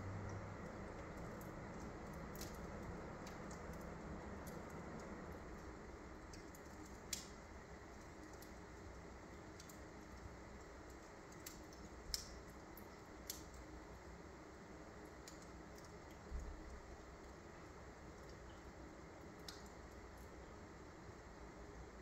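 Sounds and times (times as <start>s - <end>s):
fire crackling and popping: 0.0s - 21.2s.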